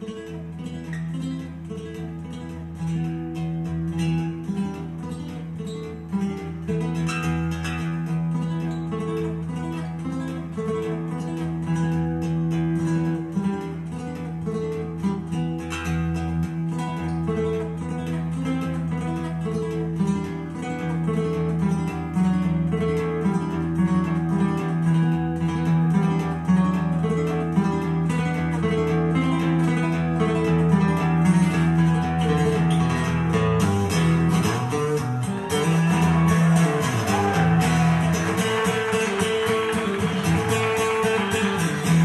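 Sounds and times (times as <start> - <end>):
acoustic guitar music on small speaker: 0.0 - 42.0.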